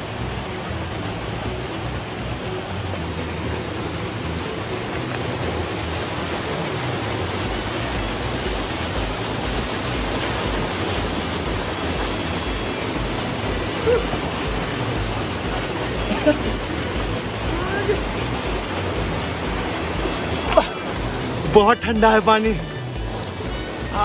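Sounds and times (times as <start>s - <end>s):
waterfall pouring into pool: 0.0s - 24.0s.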